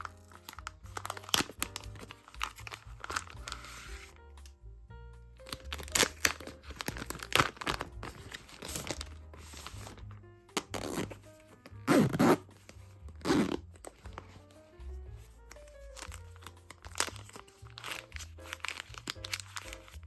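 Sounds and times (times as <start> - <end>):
packaging crinkling and tearing: 0.0 - 4.1, 5.5 - 14.6, 15.5 - 20.0
soft background music: 0.0 - 20.0.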